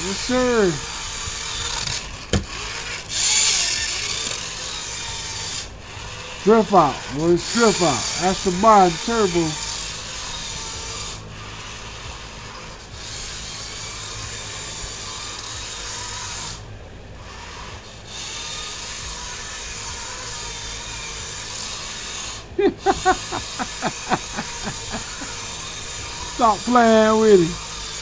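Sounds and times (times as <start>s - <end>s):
electric rc car whirring: 0.0s - 28.0s.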